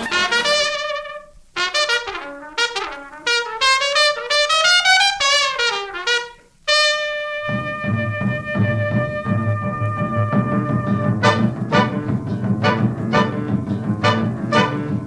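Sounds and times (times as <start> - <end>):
band bass: 0.0 - 4.3, 7.0 - 15.0
trumpet solo: 0.0 - 15.0.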